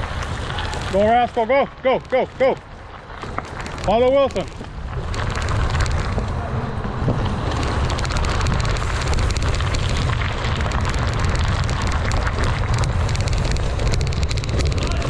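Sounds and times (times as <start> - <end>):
bike rattling: 0.0 - 15.0
tyres crunching over gravel: 0.0 - 15.0
wind rumble: 0.0 - 15.0.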